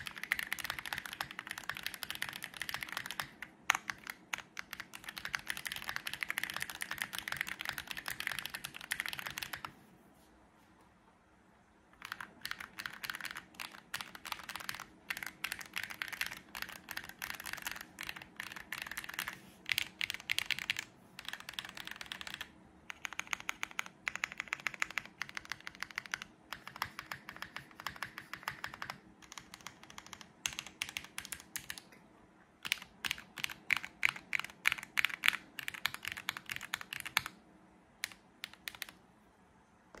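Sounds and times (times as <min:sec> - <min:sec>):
mechanical keyboard typing: 0:00.0 - 0:09.7, 0:12.0 - 0:31.9, 0:32.6 - 0:37.4, 0:38.0 - 0:39.0.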